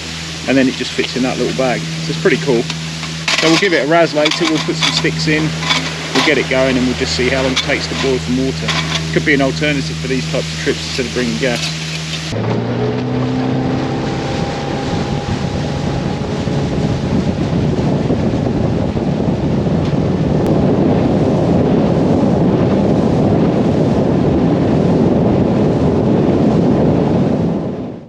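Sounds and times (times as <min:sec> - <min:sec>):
boat motor and water rushing: 0:00.0 - 0:28.0
wind buffeting microphone: 0:00.0 - 0:28.0.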